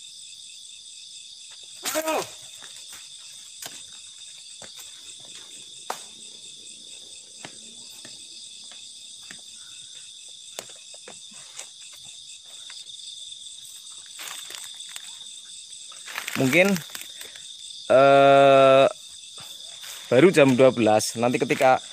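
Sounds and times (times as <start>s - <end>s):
night insects chorus: 0.0s - 21.9s.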